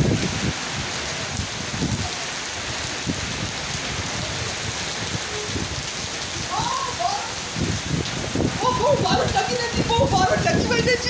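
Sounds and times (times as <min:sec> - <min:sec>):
heavy rain on road: 0:00.0 - 0:11.0.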